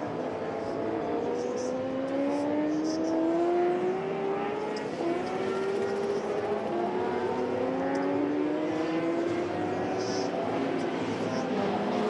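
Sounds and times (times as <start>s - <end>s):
race car engine running: 0.0s - 12.0s.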